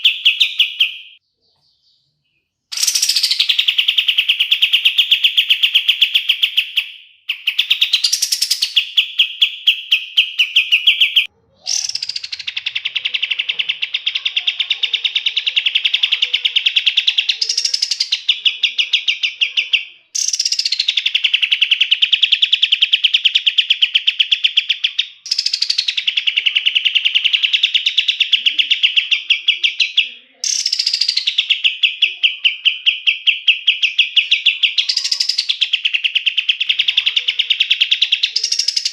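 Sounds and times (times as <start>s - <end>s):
songbird singing rolling trills: 0.0s - 38.9s.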